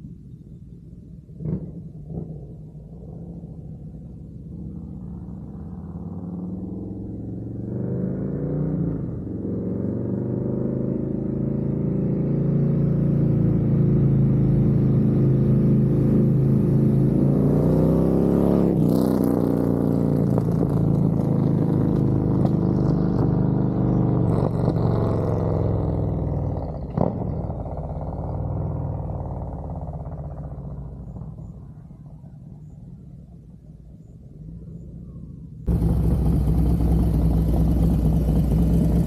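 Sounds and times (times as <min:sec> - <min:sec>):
motorcycle engine accelerating: 0:01.3 - 0:39.0.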